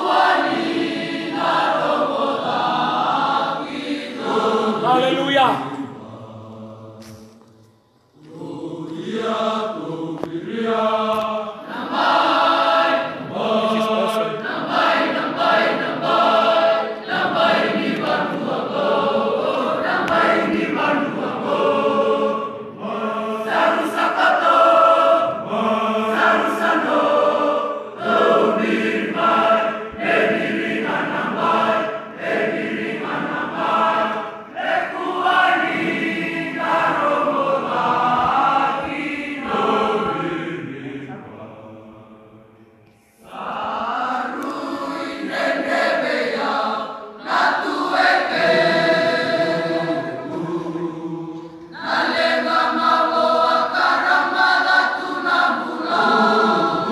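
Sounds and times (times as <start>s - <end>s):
choir singing in harmony: 0.0s - 56.9s.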